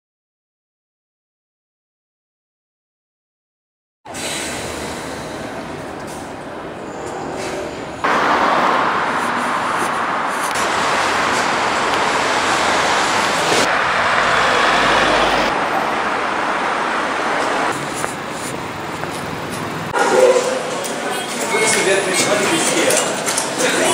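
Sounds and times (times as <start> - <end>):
passing cars and buses: 4.1 - 23.9.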